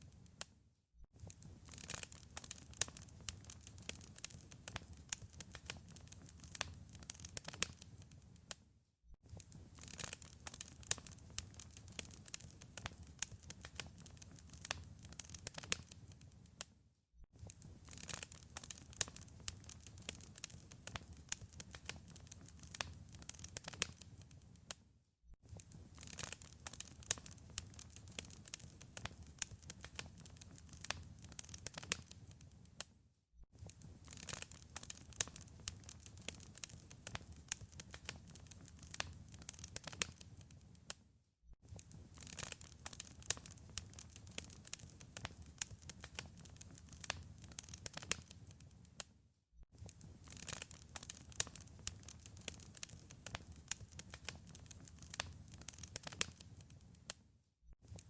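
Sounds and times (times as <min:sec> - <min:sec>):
fire crackling and popping: 0:01.2 - 0:08.6, 0:09.3 - 0:16.7, 0:17.4 - 0:24.8, 0:25.4 - 0:32.9, 0:33.6 - 0:41.0, 0:41.7 - 0:49.1, 0:49.8 - 0:57.2.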